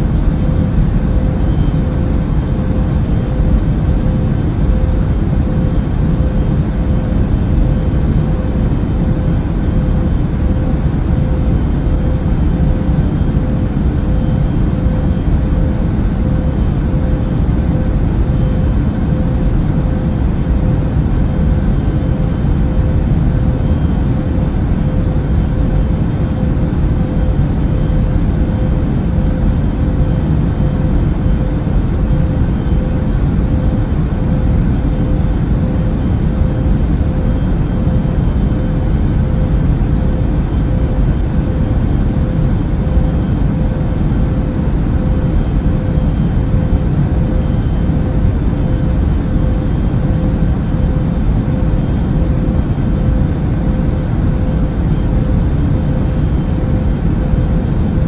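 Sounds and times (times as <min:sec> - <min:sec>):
airliner cabin engine rumble: 0:00.0 - 0:58.0
faint steady hum: 0:00.0 - 0:58.0.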